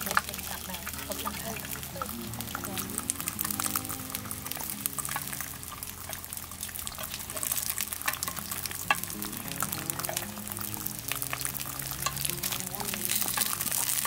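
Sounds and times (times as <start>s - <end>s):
batter sizzling in oil: 0.0s - 14.0s.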